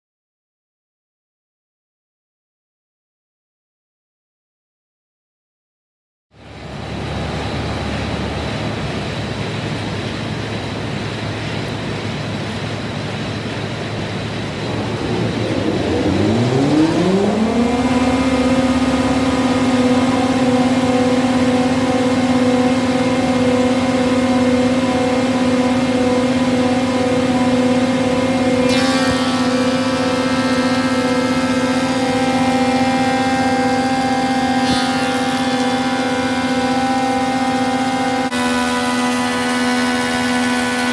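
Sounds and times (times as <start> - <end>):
planer motor whine: 6.4 - 40.9
workshop machinery rushing: 6.6 - 40.9.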